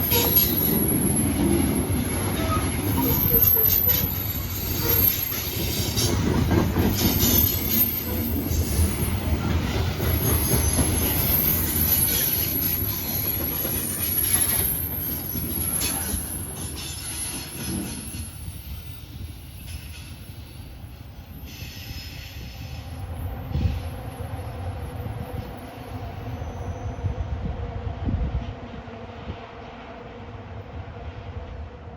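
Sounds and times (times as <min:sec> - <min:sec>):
train wheels squealing: 0:00.0 - 0:27.6
train cars rumbling and clacking: 0:00.0 - 0:31.9.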